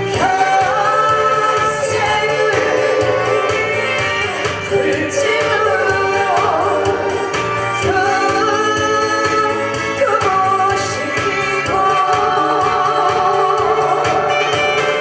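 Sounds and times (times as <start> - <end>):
person singing: 0.0 - 15.0
pop backing with steady beat: 0.0 - 15.0.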